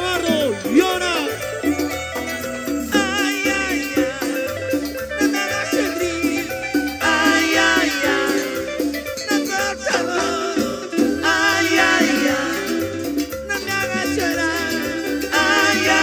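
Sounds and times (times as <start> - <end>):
live band playing cumbia: 0.0 - 16.0.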